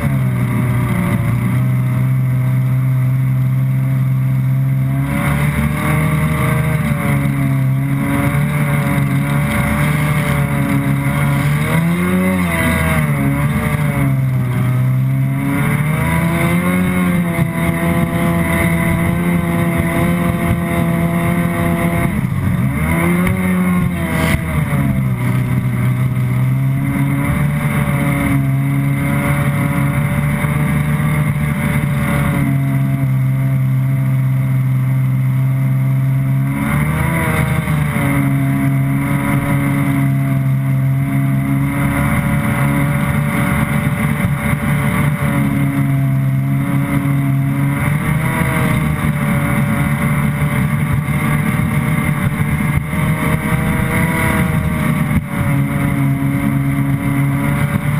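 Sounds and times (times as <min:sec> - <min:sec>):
jet ski engine running: 0:00.0 - 0:57.9.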